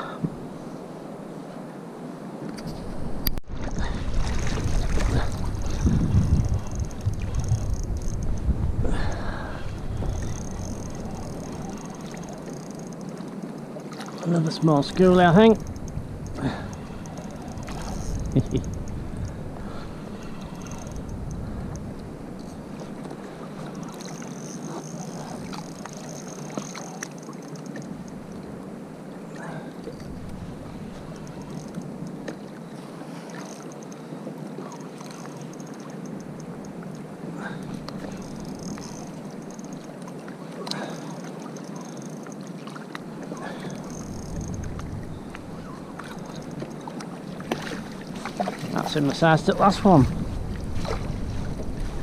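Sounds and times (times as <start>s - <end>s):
wind: 0.0s - 52.0s
water sloshing against kayak: 2.6s - 52.0s.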